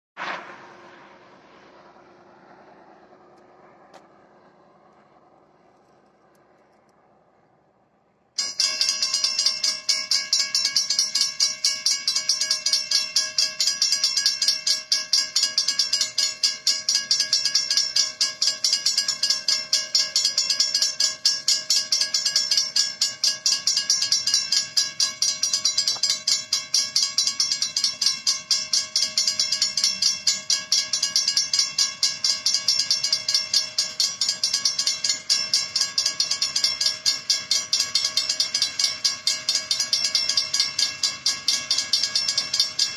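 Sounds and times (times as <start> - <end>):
railroad crossing bells ringing: 8.4 - 42.9.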